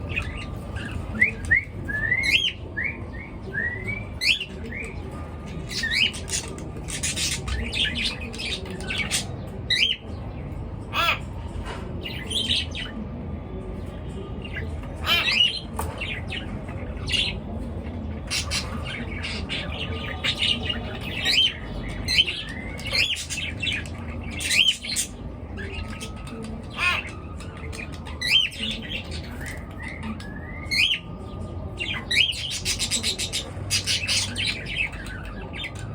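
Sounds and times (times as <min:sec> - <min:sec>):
cage birds chirping and squawking: 0:00.0 - 0:35.9.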